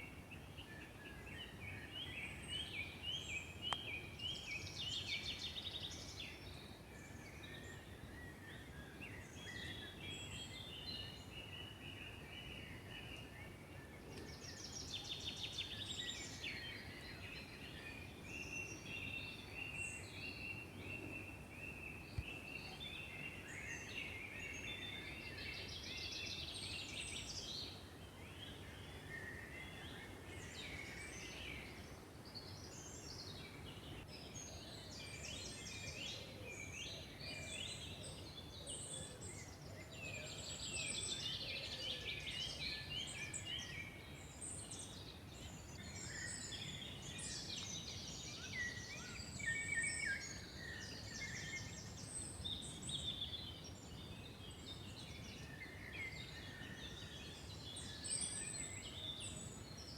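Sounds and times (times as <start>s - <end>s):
birds singing and calling: 0.0s - 59.9s
soft steady background hiss: 0.0s - 59.9s.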